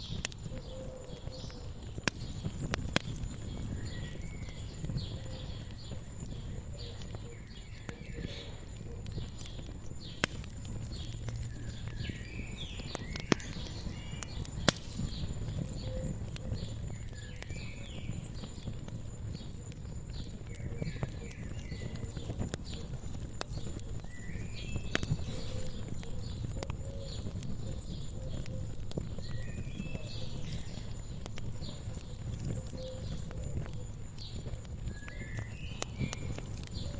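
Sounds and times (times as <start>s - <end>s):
small birds chirping: 0.0s - 36.9s
wood fire crackling: 0.0s - 36.9s.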